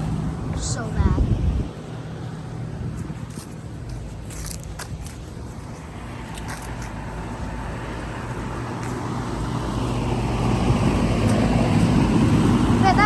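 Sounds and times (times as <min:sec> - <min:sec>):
low mechanical hum: 0:00.0 - 0:13.0
motor vehicle approaching: 0:00.0 - 0:13.0.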